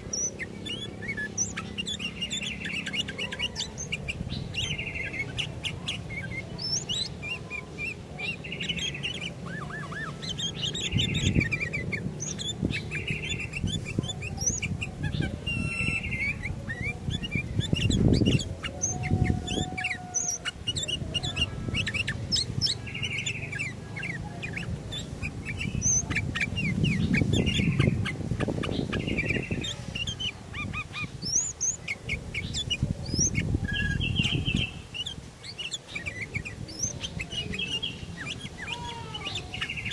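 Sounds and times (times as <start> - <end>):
bulbuls chirping: 0.0 - 39.9
low rumbling background noise: 0.0 - 39.9.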